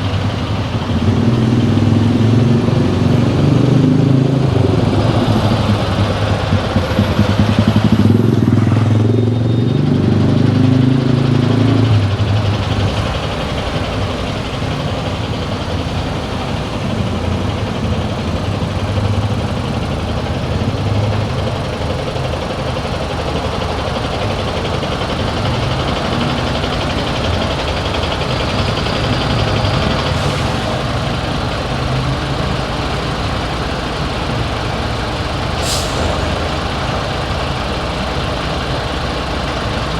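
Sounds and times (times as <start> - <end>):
traffic and road noise: 0.0 - 39.9
vehicle engine hum: 0.0 - 39.9.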